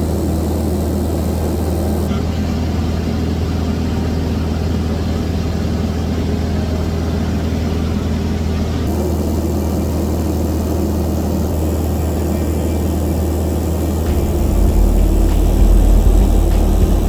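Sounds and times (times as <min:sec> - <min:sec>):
cabin hiss: 0:00.0 - 0:04.4, 0:06.9 - 0:17.0
light aircraft engine drone: 0:00.0 - 0:17.0.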